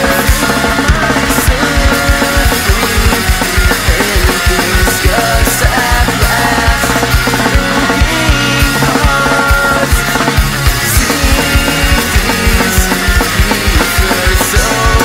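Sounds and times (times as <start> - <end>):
punk rock song: 0.0 - 15.0.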